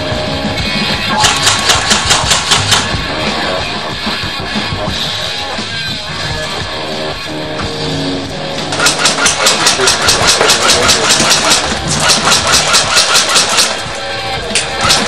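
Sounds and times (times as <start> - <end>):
rock music with drums and guitar: 0.0 - 15.0.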